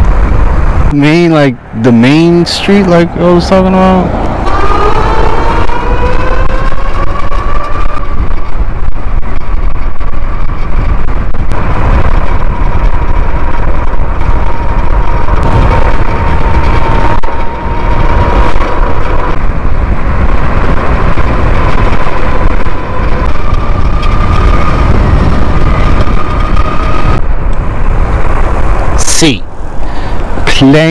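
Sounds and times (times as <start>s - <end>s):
wind rumble on microphone: 0.0s - 30.9s
electric bike motor whine: 4.1s - 30.4s.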